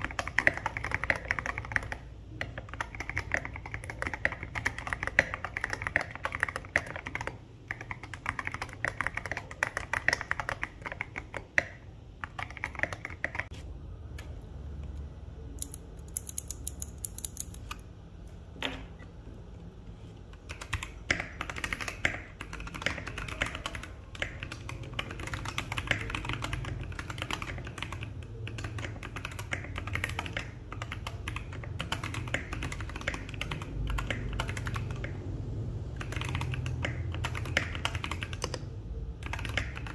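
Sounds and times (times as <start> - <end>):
mechanical keyboard typing: 0.0 - 13.5, 15.5 - 17.9, 20.3 - 35.3, 35.9 - 39.9.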